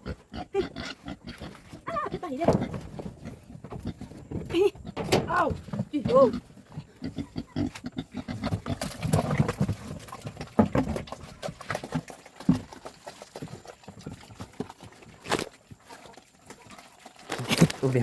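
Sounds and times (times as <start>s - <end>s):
clicks and knocks of pigs eating: 0.0s - 18.0s
pigs grunting: 0.0s - 18.0s.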